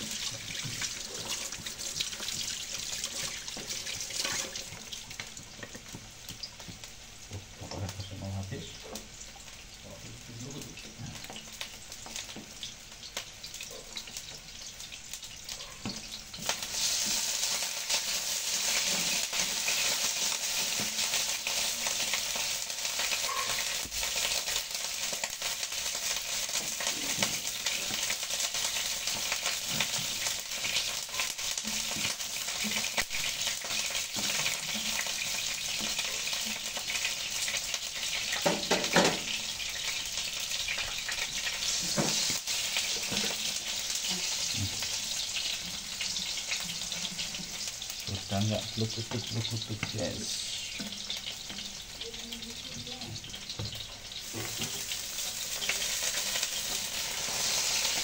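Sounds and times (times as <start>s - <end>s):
squid sizzling in a pan: 0.0s - 58.0s.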